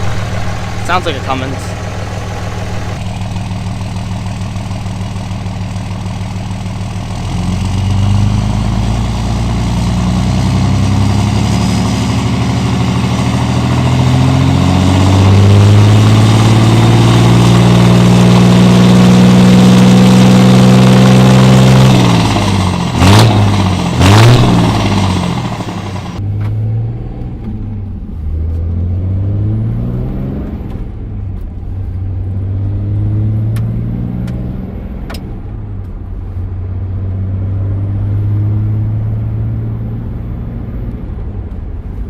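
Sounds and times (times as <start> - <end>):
diesel truck engine: 0.0 - 42.0.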